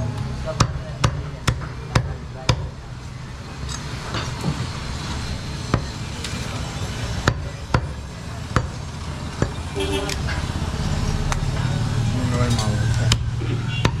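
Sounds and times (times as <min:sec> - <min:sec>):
low market hum: 0:00.0 - 0:14.0.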